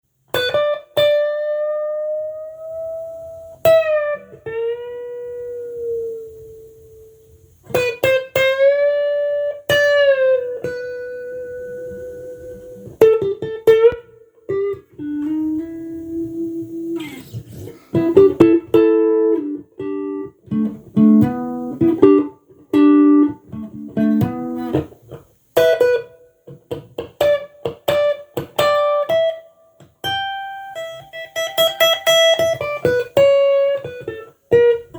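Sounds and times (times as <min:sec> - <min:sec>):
clean electric guitar solo: 0:00.3 - 0:25.0, 0:27.2 - 0:34.9.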